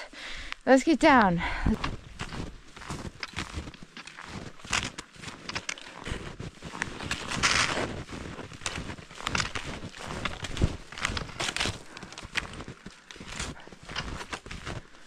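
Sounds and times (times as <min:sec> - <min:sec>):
snowshoe steps in snow: 0:01.0 - 0:15.0.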